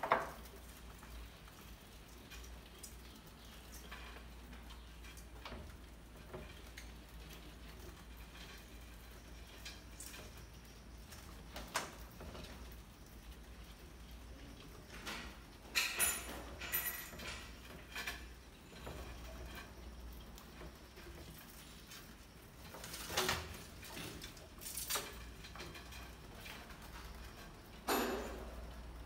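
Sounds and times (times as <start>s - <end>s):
mice scurrying on wood: 0.0s - 29.0s.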